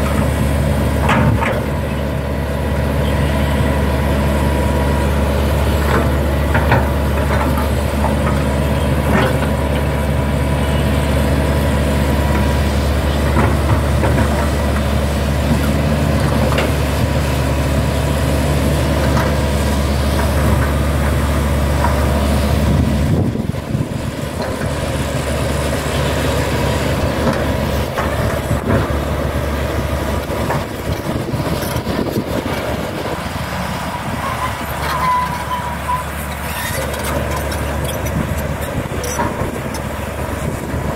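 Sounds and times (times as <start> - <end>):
excavator diesel engine under load: 0.0 - 40.9
steel tracks crawling: 0.0 - 40.9.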